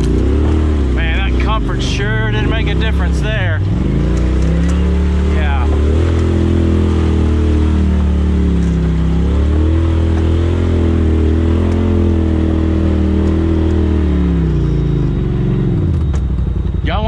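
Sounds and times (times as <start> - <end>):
vehicle engine at low speed: 0.0 - 17.0.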